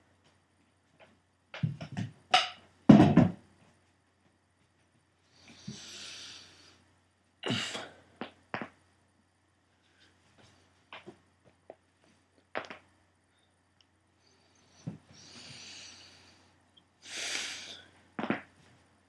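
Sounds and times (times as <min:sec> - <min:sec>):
soft hiss: 0:03.4 - 0:19.0.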